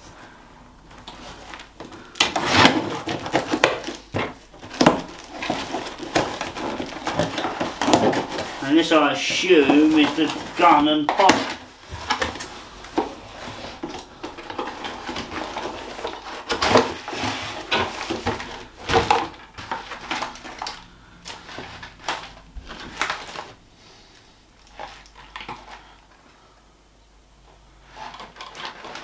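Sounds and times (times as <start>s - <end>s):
cardboard packaging rustling: 0.0s - 26.5s, 27.8s - 29.0s.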